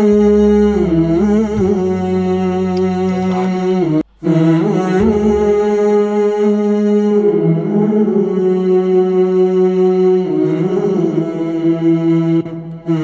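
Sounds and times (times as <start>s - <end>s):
layered sung harmonies: 0.0s - 13.0s
low sung bass line: 0.0s - 13.0s.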